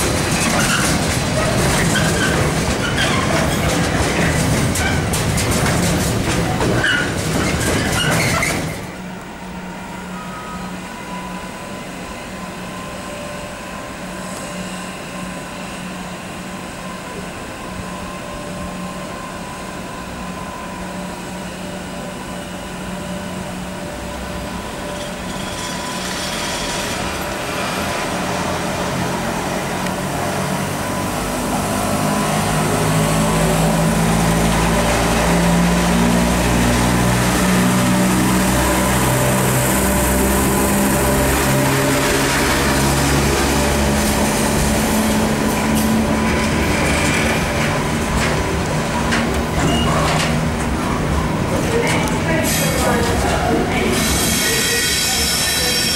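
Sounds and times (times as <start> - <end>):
train wagons rattling on rails: 0.0 - 11.3, 15.8 - 55.9
electric locomotive motors humming: 0.0 - 55.9.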